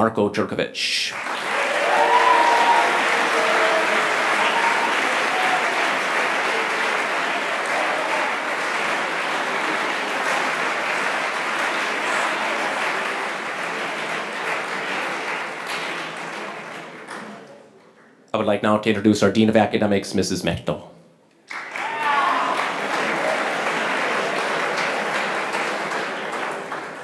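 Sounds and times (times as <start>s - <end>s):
audience applauding: 1.1s - 17.6s, 21.5s - 27.0s.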